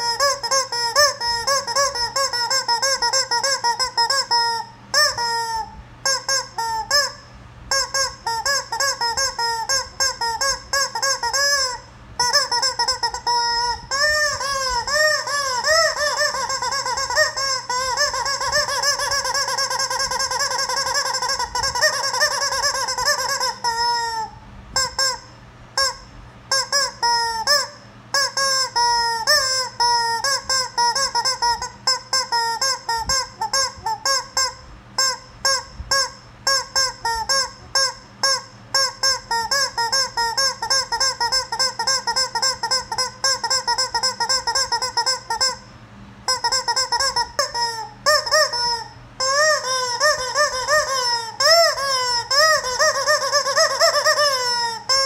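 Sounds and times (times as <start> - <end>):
rubber chicken toy squawking: 0.0 - 55.0.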